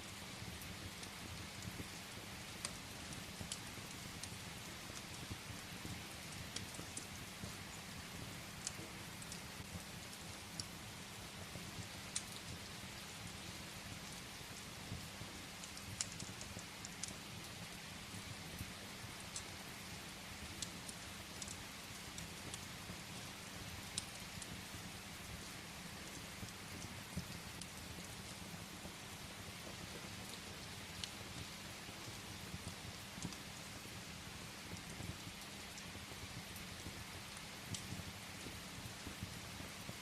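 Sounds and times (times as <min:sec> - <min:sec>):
firewood crackling and popping: 0:00.0 - 0:40.0
steady rain: 0:00.0 - 0:40.0.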